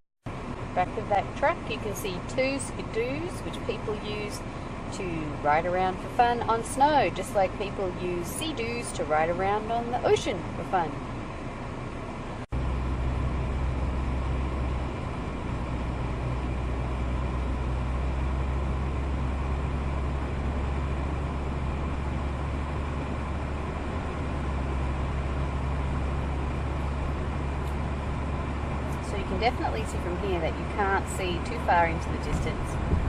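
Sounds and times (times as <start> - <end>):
car engine drone: 0.3 - 33.0
road and tyre hiss: 0.3 - 33.0.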